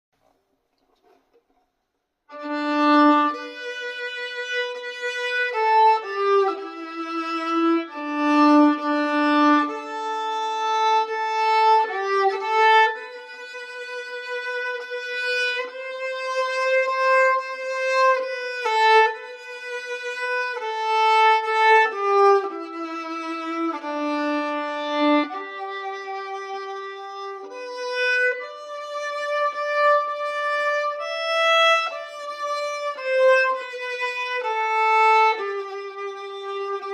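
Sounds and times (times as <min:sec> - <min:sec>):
solo violin playing slow melody: 0:02.3 - 0:36.9.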